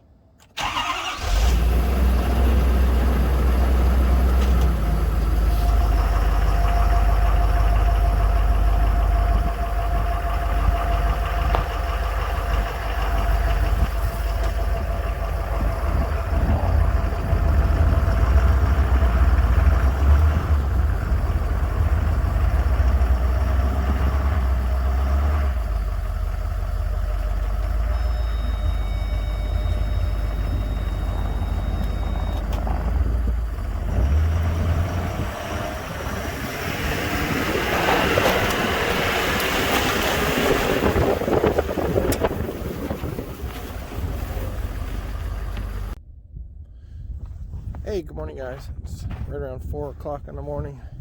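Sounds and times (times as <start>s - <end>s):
diesel engine rumbling: 0.0s - 51.0s.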